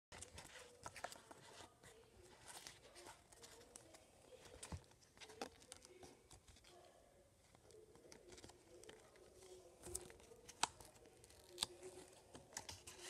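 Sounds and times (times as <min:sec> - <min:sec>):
paper and plastic handling noise: 0:00.1 - 0:13.0.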